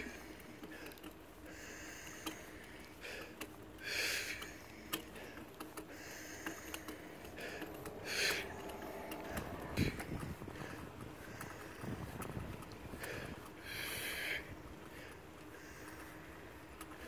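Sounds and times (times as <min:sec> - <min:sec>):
person breathing slowly: 0:00.0 - 0:17.0.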